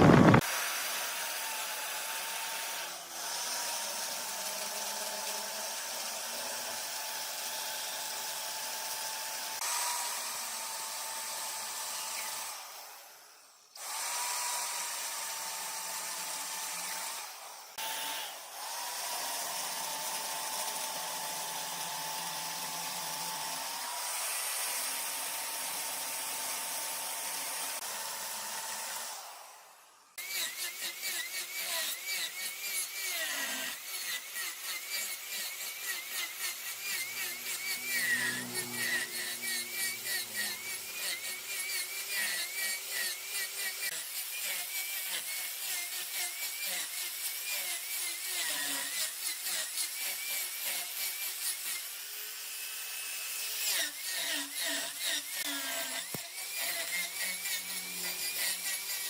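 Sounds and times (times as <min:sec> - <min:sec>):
wood lathe motor whine: 0:00.0 - 0:43.9, 0:53.1 - 0:59.0
turning tool cutting wood: 0:00.0 - 0:59.0.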